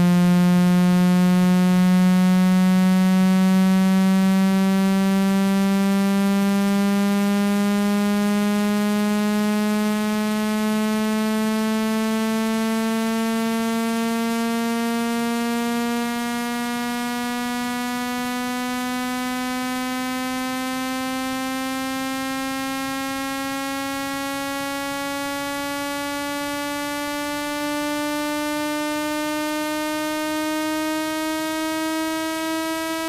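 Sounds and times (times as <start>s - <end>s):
buzzing tone rising in pitch: 0.0s - 33.0s.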